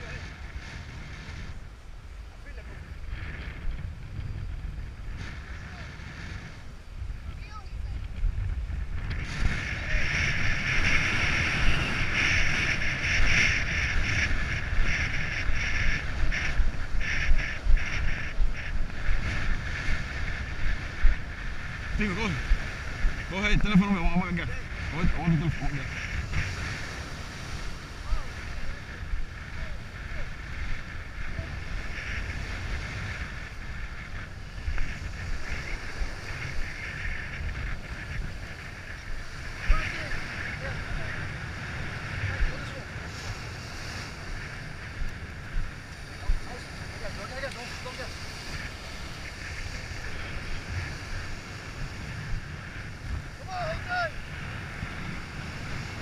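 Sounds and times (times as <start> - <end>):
surf hissing: 0.0 - 56.0
wind on microphone: 0.0 - 56.0.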